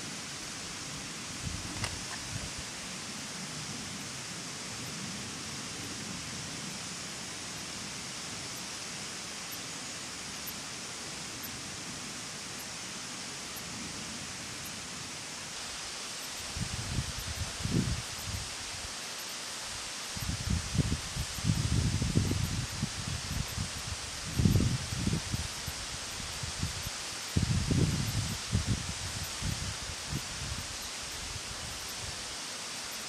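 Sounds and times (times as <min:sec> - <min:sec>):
outdoor background hiss: 0:00.0 - 0:33.0.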